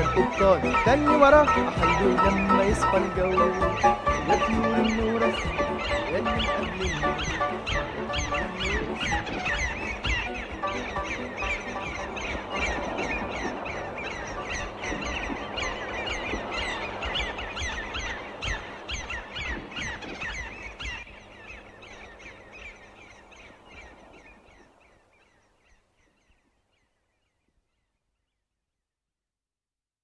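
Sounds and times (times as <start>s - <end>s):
seagulls squawking: 0.0s - 26.4s.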